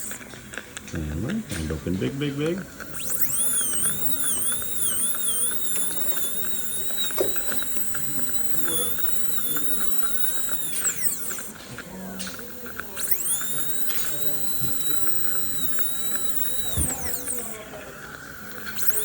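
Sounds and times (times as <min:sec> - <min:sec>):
dental drill whining: 0:00.0 - 0:19.0.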